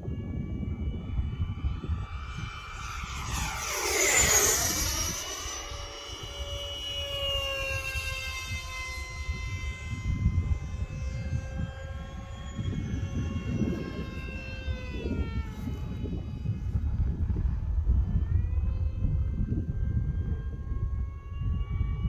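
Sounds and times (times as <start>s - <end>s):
model jet whine fly-by: 0.0s - 22.0s
wind rumble on microphone: 0.0s - 22.0s.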